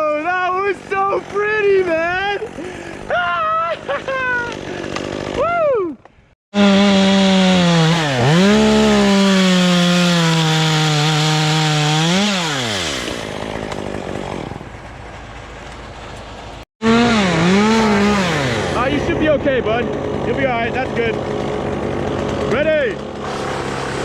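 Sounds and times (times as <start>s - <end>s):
chainsaw cutting wood: 0.6s - 3.1s, 3.8s - 5.6s, 6.5s - 24.0s.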